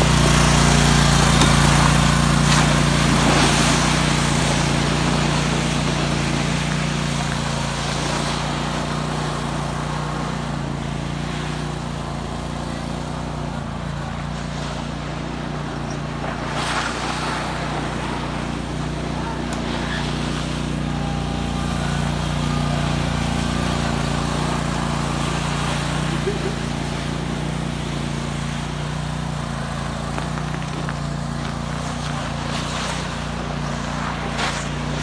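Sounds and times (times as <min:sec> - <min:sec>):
riding mower engine running: 0:00.0 - 0:35.0.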